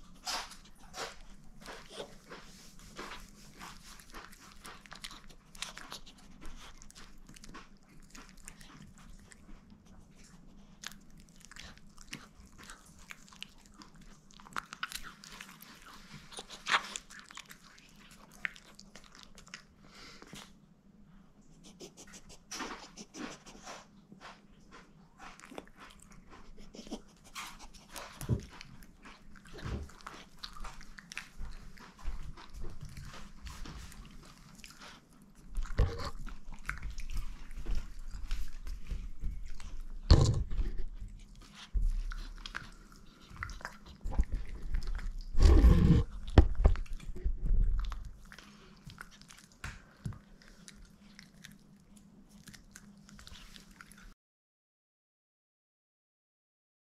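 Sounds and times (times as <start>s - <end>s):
dog chewing and crunching: 0.0s - 20.6s, 21.8s - 54.2s.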